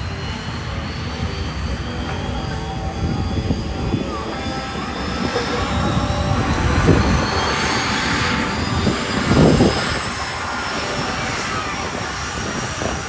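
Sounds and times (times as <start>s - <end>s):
high whine falling in pitch: 0.0s - 13.0s
jet engine roaring: 0.0s - 13.0s.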